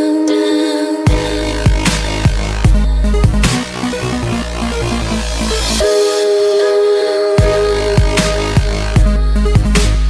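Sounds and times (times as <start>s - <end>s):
electronic dance music: 1.1s - 10.0s.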